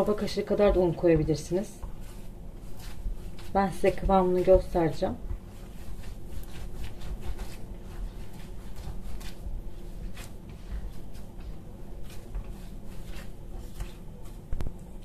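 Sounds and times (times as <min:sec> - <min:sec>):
hand kneading dough on metal tray: 0:00.0 - 0:15.0.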